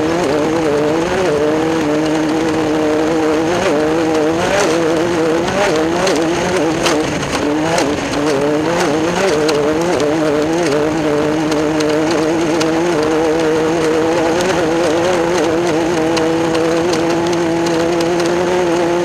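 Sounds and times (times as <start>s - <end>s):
race car engine revving: 0.0s - 19.0s
sharp knocks and clicks: 0.0s - 19.0s.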